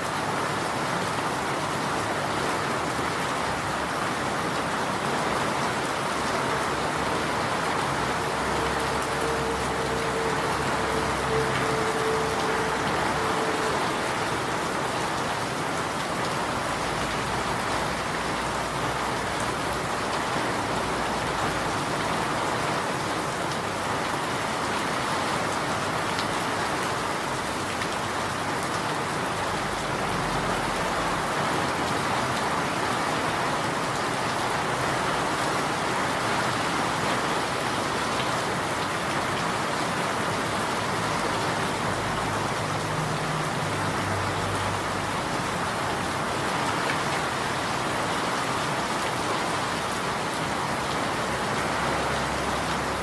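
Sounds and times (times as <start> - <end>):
steady rain patter: 0.0 - 53.0.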